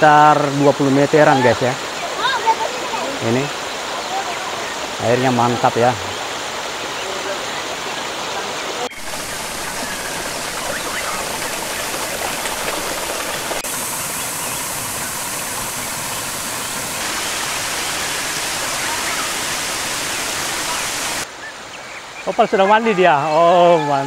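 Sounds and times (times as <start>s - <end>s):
water cascading over rock: 0.0s - 21.3s.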